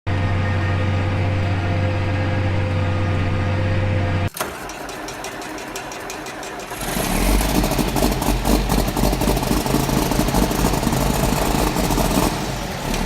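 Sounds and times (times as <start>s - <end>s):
tractor engine running: 0.7s - 13.0s.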